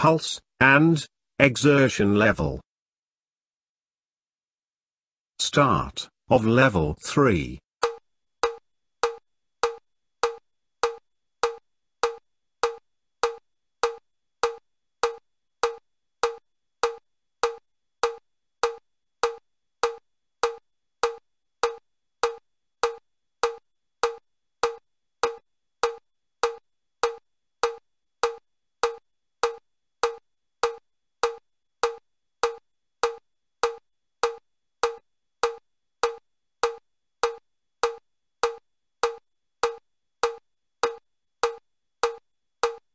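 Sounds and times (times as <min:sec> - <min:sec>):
metronome clicking: 0:07.8 - 0:42.8.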